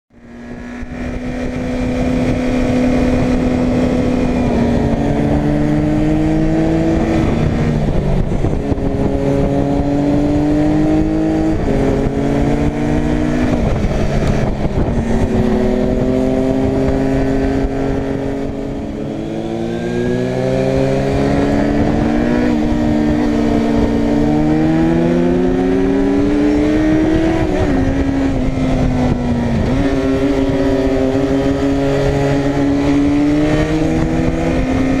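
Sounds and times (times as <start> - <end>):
motorcycle engine revving: 0.1 - 35.0
wind rush: 0.2 - 35.0.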